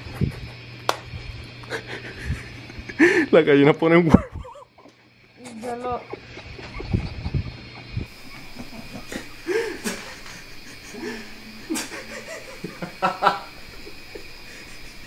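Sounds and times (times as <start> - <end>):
people laughing: 1.6 - 3.3, 4.0 - 15.0.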